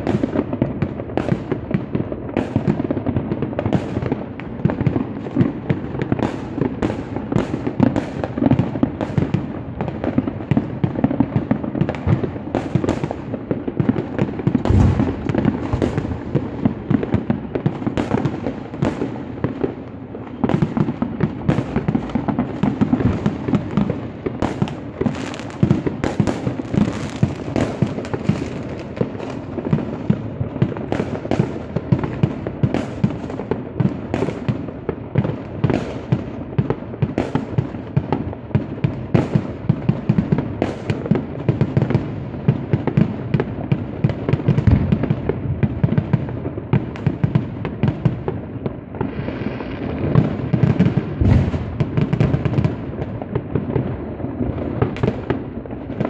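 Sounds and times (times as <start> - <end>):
fireworks bangs and pops: 0.0 - 56.0
fireworks crackling: 0.0 - 56.0.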